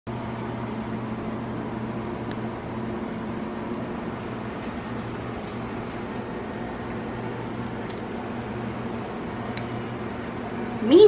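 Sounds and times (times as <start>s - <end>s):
low machine hum: 0.1s - 11.0s.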